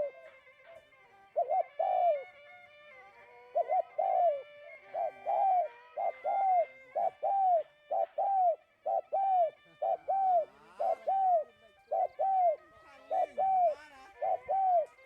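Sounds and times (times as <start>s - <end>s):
dove cooing: 0.0s - 2.4s, 3.4s - 15.0s.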